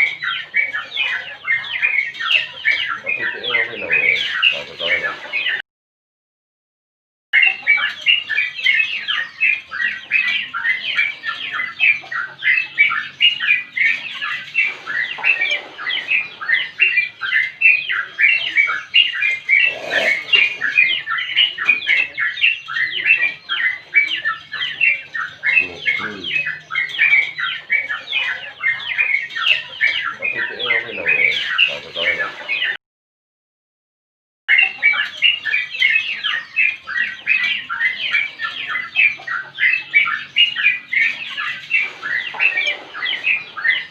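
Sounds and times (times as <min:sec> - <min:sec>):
bird chattering song: 0:00.0 - 0:05.6, 0:07.4 - 0:32.8, 0:34.5 - 0:43.9.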